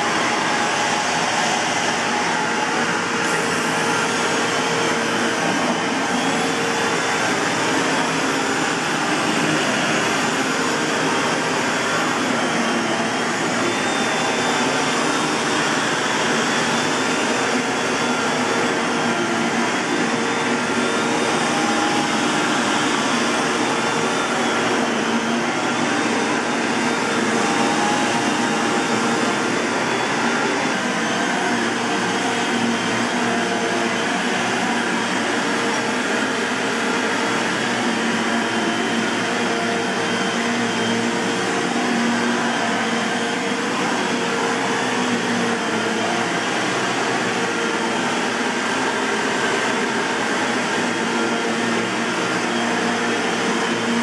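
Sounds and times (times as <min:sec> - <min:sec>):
vacuum cleaner whirring: 0:00.0 - 0:54.0.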